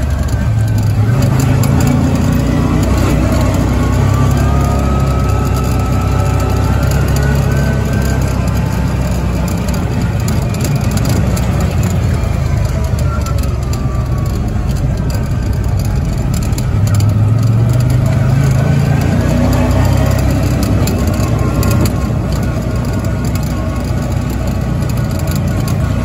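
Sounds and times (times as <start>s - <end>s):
off-road vehicle engine drone: 0.0s - 26.0s.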